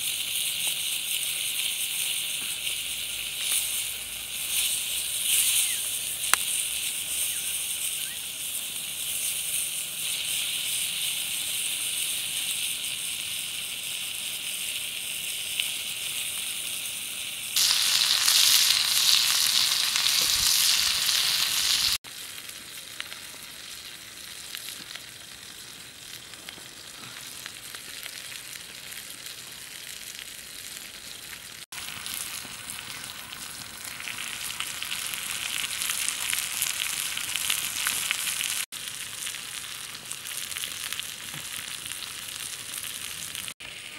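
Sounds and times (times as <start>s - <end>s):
fish sizzling on hot stone: 0.0s - 43.9s.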